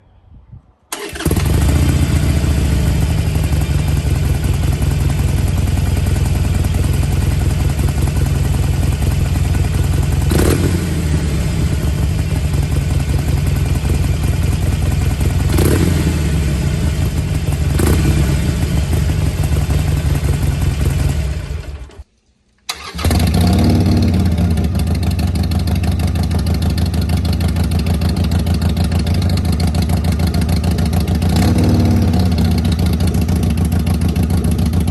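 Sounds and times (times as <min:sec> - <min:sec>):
motorcycle engine running: 0:01.0 - 0:22.0, 0:23.0 - 0:34.9.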